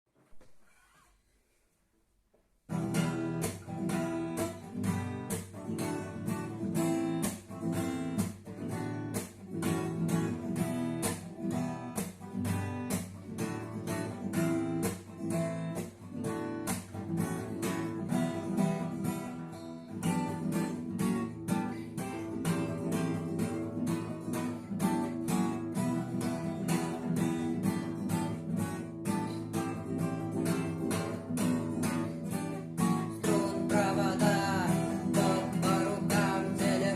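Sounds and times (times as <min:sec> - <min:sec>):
acoustic guitar strumming chords: 0:02.7 - 0:36.9.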